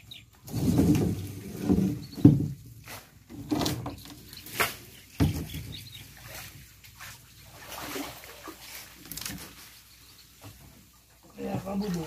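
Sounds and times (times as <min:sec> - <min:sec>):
water splashing: 0:00.5 - 0:12.0.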